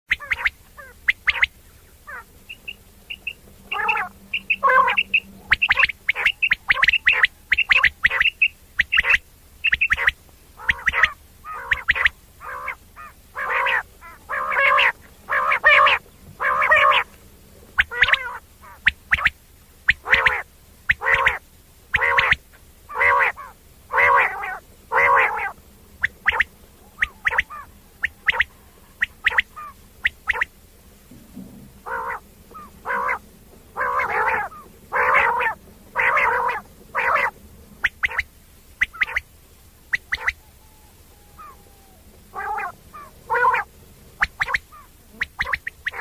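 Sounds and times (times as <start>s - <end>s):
bird harsh calls: 0.1s - 30.6s, 31.2s - 46.0s.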